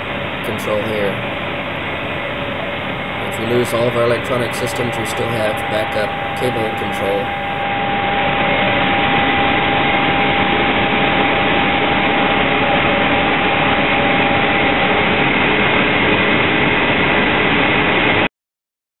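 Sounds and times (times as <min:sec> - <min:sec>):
cooling fan airflow rush: 0:00.0 - 0:18.3
high-pitched whine: 0:00.0 - 0:18.3
mid-pitched whine: 0:00.0 - 0:18.3.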